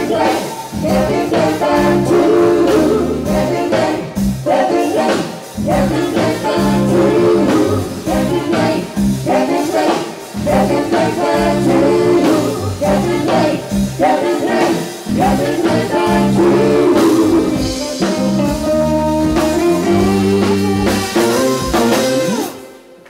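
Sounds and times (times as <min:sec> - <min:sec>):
bass: 0:00.0 - 0:04.7, 0:05.5 - 0:09.7, 0:10.3 - 0:22.6
person singing: 0:00.0 - 0:22.6
drums: 0:00.0 - 0:23.0
electric guitar: 0:00.0 - 0:23.0.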